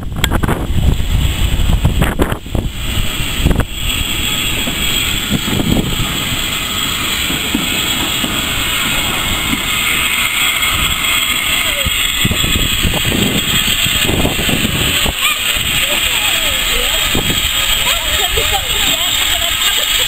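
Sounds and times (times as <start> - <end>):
train wagons rolling on rails: 0.0 - 20.0.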